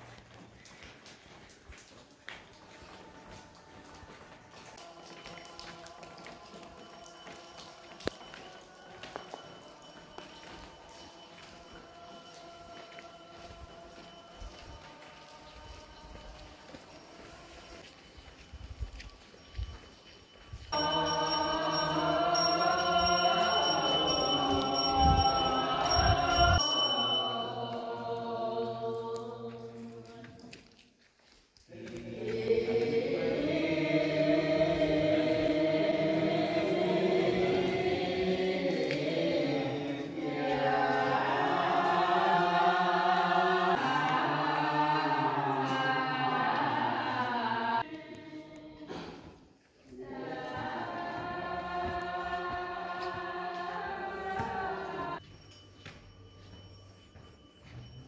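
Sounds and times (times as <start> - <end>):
choir-like chanting: 2.7 - 18.0, 20.7 - 30.5, 31.7 - 55.2.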